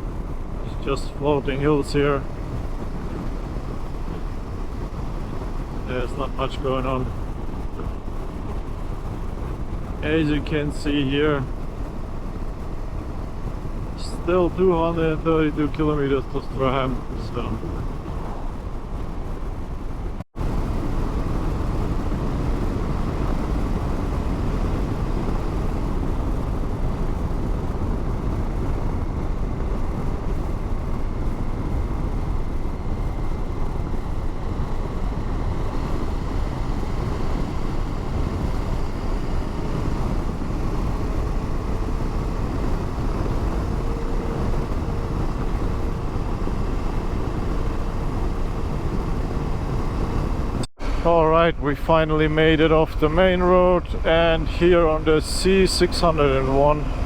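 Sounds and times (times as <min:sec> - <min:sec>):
motorcycle engine running: 0:00.0 - 0:51.3, 0:52.4 - 0:57.0
wind and road noise: 0:00.0 - 0:57.0.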